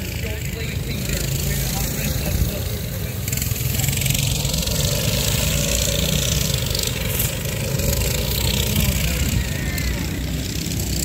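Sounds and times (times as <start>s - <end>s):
minibike engines running: 0.0s - 11.0s.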